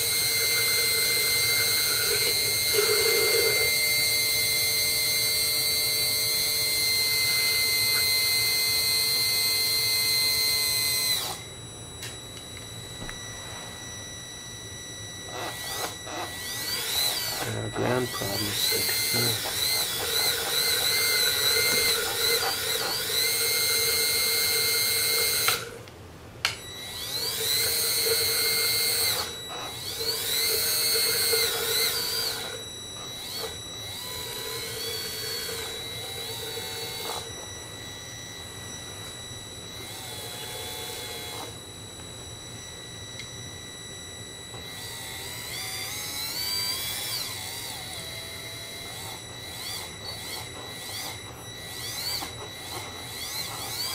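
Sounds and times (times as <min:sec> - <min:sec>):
small pump motor whining: 0:00.0 - 0:53.9.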